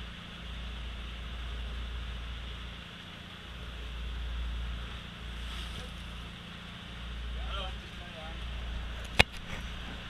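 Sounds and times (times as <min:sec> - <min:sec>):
boat engine humming: 0:00.0 - 0:10.0
low wavering rumble: 0:00.0 - 0:10.0.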